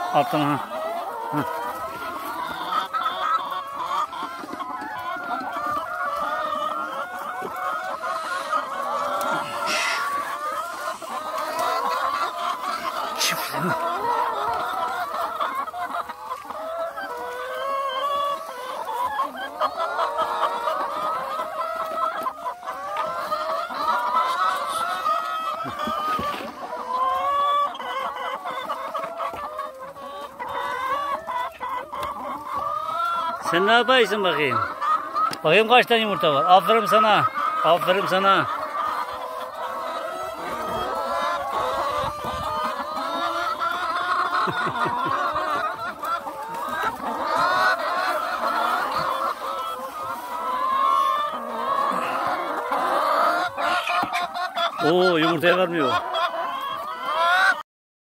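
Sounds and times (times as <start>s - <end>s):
hens clucking: 0.0s - 57.6s.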